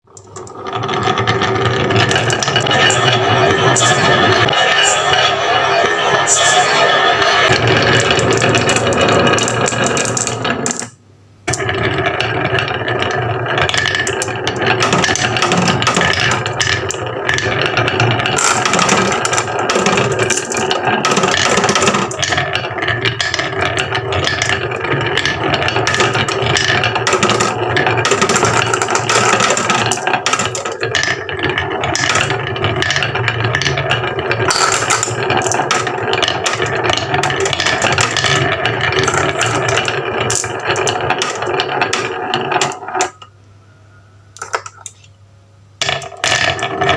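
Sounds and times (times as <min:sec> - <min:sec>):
marbles rattling down wooden run: 0:00.1 - 0:43.3, 0:44.4 - 0:44.9, 0:45.8 - 0:46.9.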